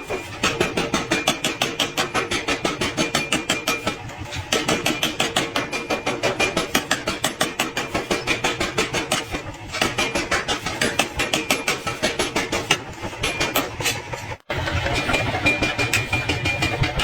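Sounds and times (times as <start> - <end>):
power hammer pounding iron: 0.4 - 17.0.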